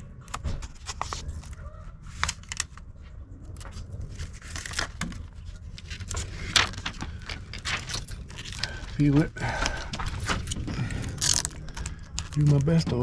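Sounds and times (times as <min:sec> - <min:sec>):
vinyl decal crinkling: 0:00.0 - 0:13.0.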